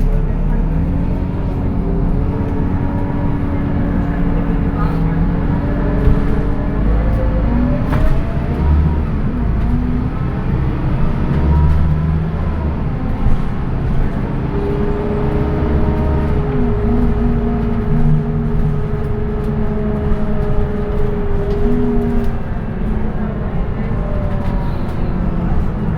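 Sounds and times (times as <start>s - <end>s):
bus diesel engine accelerating: 0.0s - 25.9s.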